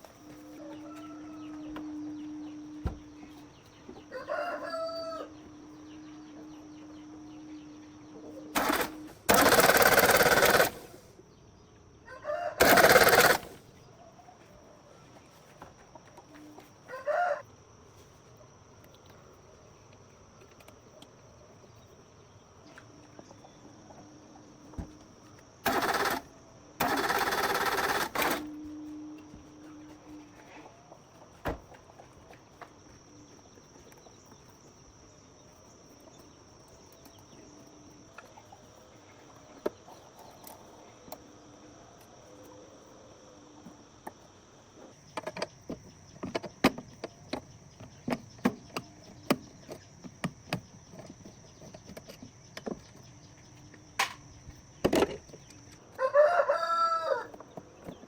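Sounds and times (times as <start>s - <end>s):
insects trilling: 0.0s - 14.3s, 15.6s - 58.0s.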